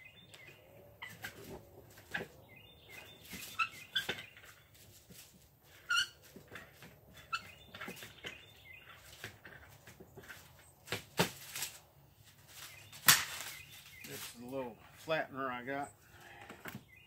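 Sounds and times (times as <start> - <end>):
small birds chirping: 0.0 - 10.9, 12.1 - 17.0.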